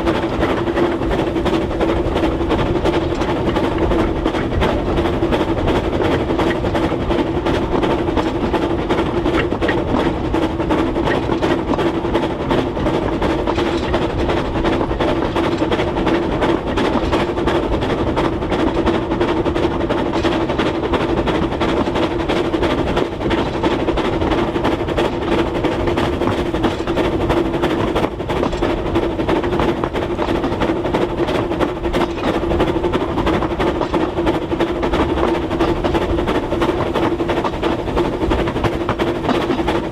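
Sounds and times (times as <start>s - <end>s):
steady hum: 0.0s - 39.9s
train rumble and rail clatter: 0.0s - 39.9s.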